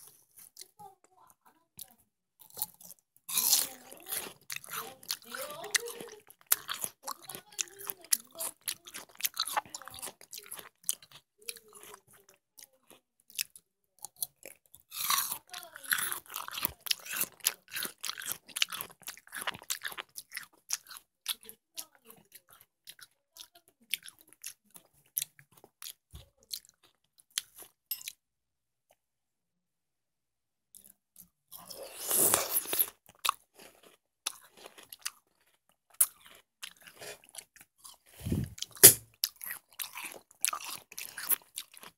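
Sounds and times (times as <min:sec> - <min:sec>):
chewing watermelon crunches: 0:01.8 - 0:28.2, 0:30.8 - 0:41.9.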